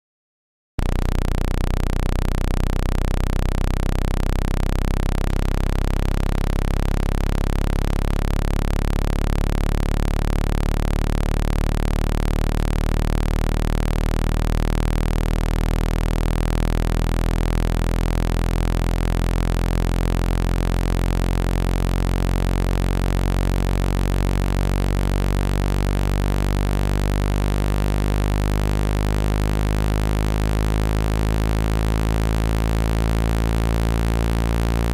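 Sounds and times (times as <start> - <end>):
low electronic tone: 0.8 - 34.9.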